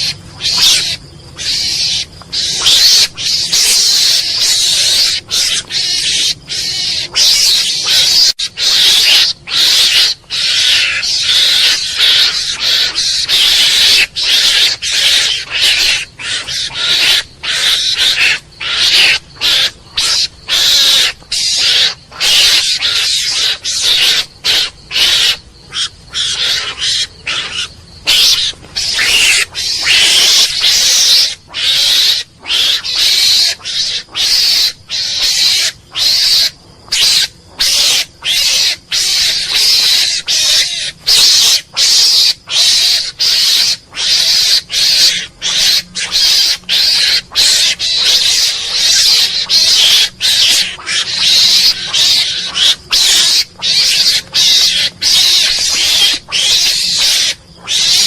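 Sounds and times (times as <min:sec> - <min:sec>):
mongoose calling: 0:00.0 - 0:58.0.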